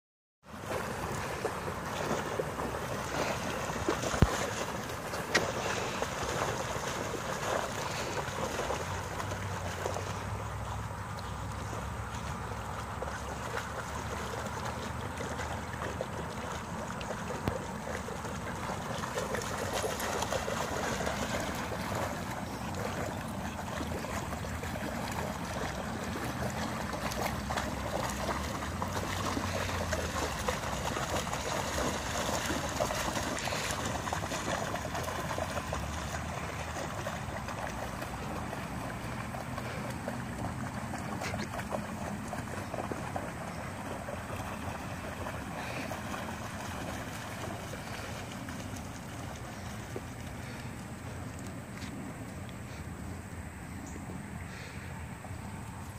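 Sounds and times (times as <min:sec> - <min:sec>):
dogs splashing in water: 0:00.5 - 0:52.8.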